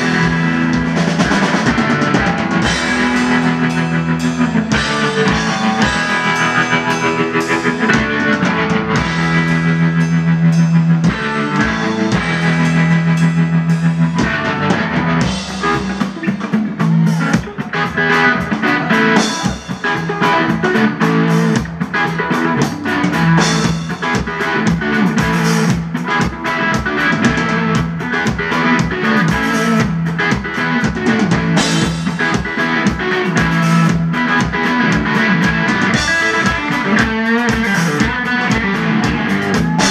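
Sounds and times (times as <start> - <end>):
electric guitar riff: 0.0 - 39.9
heavy drumming: 0.0 - 39.9.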